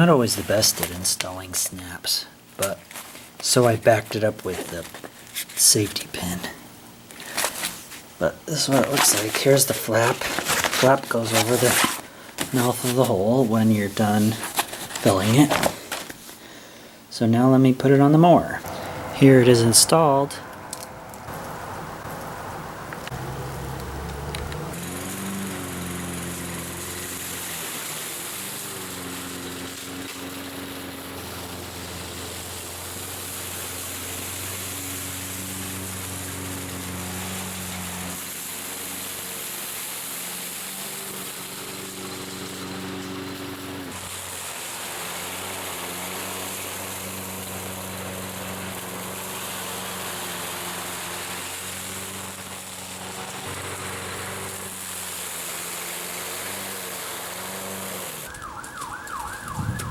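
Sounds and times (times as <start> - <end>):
lawn mower running: 0.0 - 16.8, 17.9 - 59.9.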